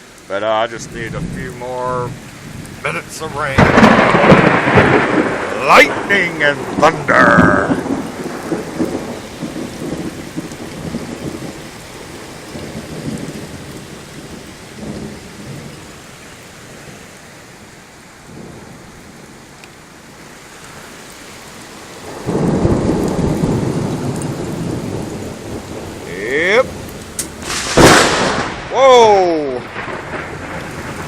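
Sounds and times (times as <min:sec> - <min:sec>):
heavy rain: 0:00.0 - 0:31.0
close thunderclap: 0:00.8 - 0:15.9, 0:18.2 - 0:19.2, 0:22.0 - 0:31.0
rolling thunder: 0:00.8 - 0:19.4, 0:22.0 - 0:31.0.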